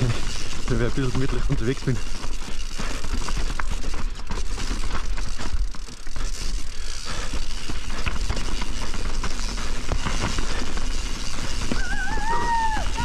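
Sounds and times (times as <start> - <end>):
bike knocks and rattles: 0.0 - 13.0
tyres rolling over dirt and rocks: 0.0 - 13.0.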